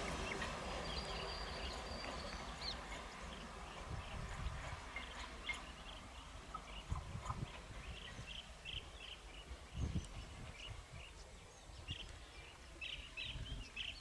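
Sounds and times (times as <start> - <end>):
distant train rumble: 0.0 - 14.0.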